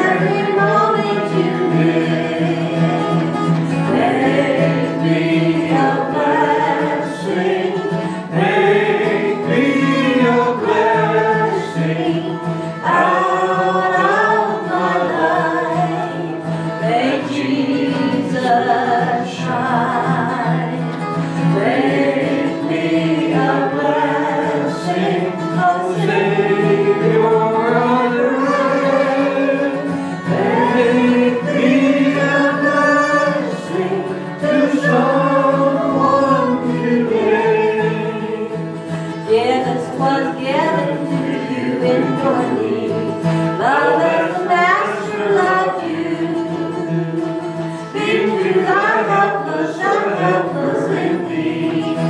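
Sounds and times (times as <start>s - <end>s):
choir singing a hymn: 0.0s - 52.0s
instrumental accompaniment: 0.0s - 52.0s.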